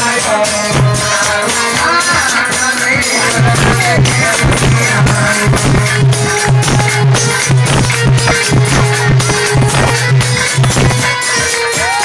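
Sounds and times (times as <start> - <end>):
folk dance music: 0.0 - 12.0
steady drum beat: 0.0 - 12.0.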